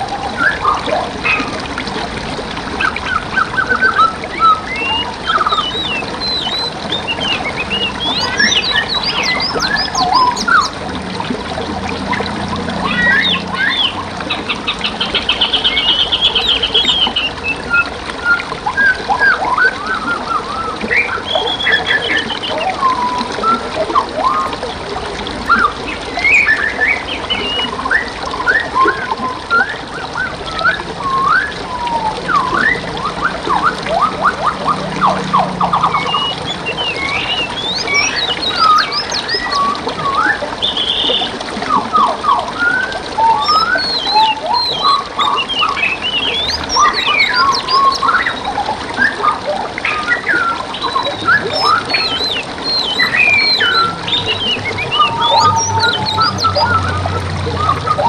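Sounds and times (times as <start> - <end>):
songbirds chirping and whistling: 0.0 - 10.8, 11.9 - 58.0
flowing water hiss: 0.0 - 58.0.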